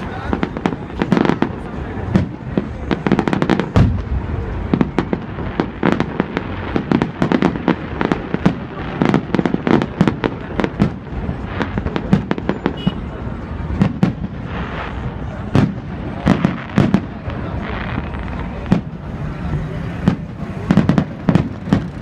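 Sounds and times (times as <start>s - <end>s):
continuous rumble: 0.0s - 22.0s
fireworks bangs and cracks: 0.0s - 22.0s.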